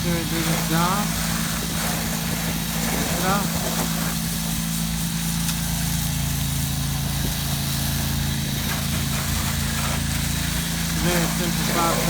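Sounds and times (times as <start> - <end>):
even hiss: 0.0 - 12.0
small engine running: 0.0 - 12.0.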